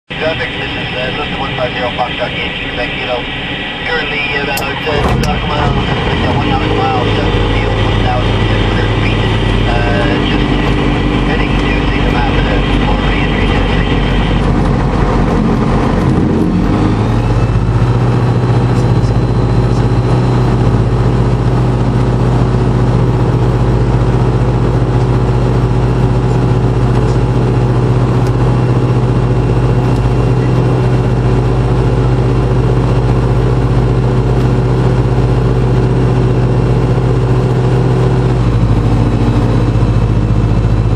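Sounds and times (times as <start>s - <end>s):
aircraft engine drone: 0.1s - 40.9s.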